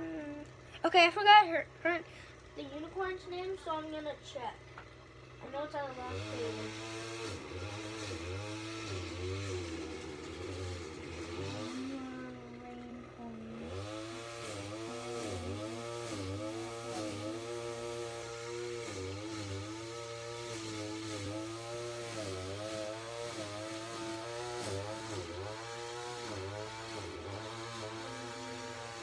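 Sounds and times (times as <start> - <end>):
motor running with dipping pitch: 0.0 - 29.0.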